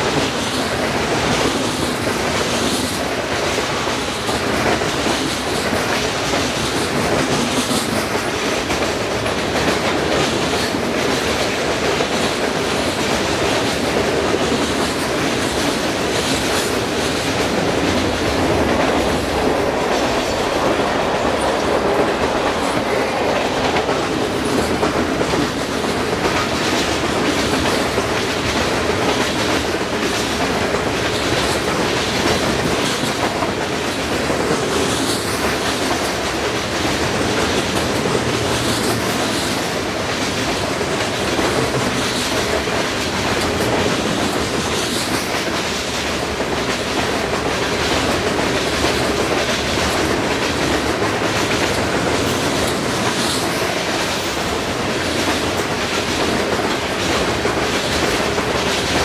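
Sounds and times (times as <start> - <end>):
wheels rumbling and clicking on rails: 0.0 - 59.0.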